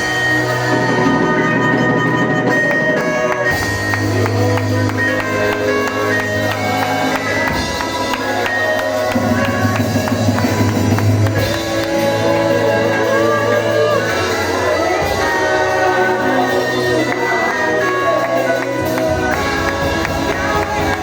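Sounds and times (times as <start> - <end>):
keyboard chords: 0.0 - 21.0
light percussion: 0.0 - 21.0
person singing: 0.1 - 21.0.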